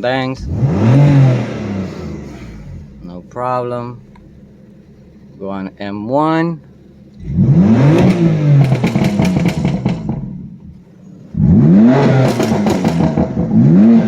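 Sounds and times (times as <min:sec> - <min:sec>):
car engine revving: 0:00.0 - 0:05.8, 0:06.6 - 0:14.0
exhaust crackles and pops: 0:00.0 - 0:14.0.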